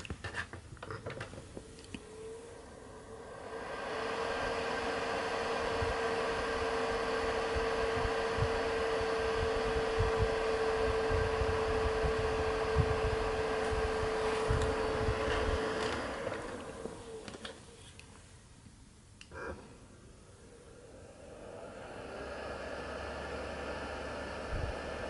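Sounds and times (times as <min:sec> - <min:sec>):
fan rushing air: 0:00.0 - 0:25.0.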